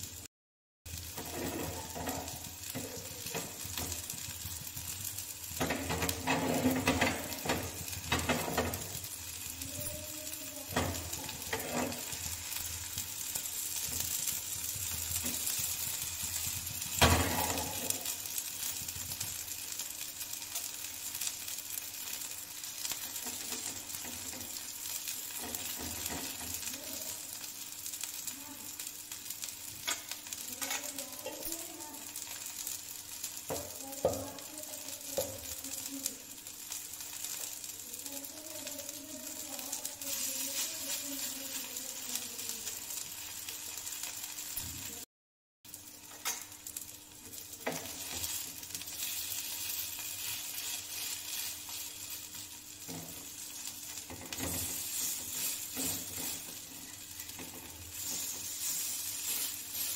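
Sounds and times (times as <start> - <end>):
food sizzling in a pan: 0.0 - 0.3, 0.9 - 45.1, 45.7 - 59.9.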